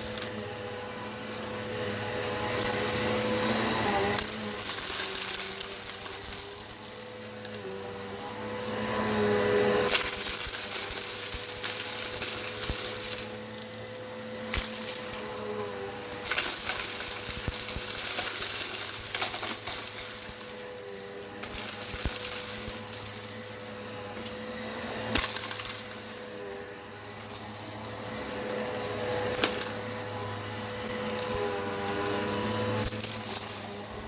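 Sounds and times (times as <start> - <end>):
salt and lentils rattling: 0.0 - 34.0
vacuum cleaner motor hum: 0.0 - 34.0.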